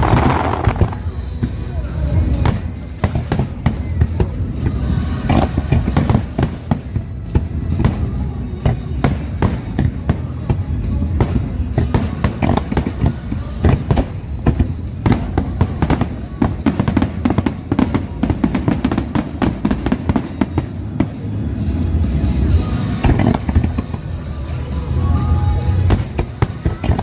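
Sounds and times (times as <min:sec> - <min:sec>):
fireworks bursts and crackling: 0:00.0 - 0:27.0
low rumble: 0:00.0 - 0:27.0
music: 0:00.0 - 0:27.0.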